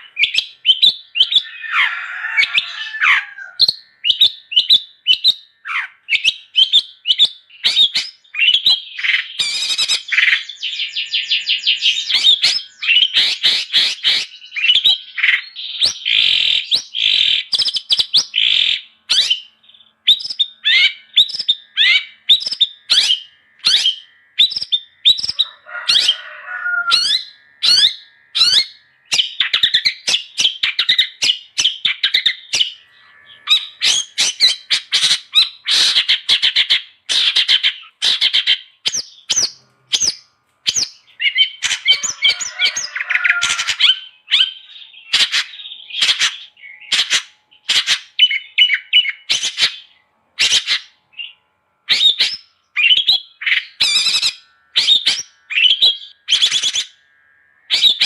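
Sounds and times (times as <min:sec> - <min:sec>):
bird singing rapid chatter: 0:00.0 - 0:58.0.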